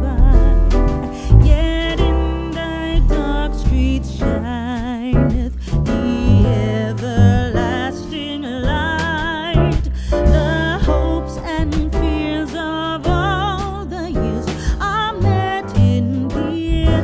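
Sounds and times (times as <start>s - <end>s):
guitar and bass: 0.0s - 17.0s
person singing with vibrato: 0.0s - 17.0s.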